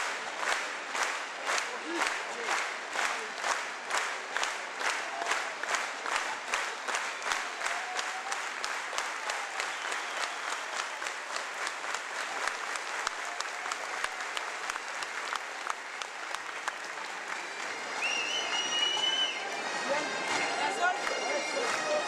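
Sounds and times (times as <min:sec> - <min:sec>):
crowd applause: 0:00.0 - 0:22.0
crowd clapping in unison: 0:00.0 - 0:22.0.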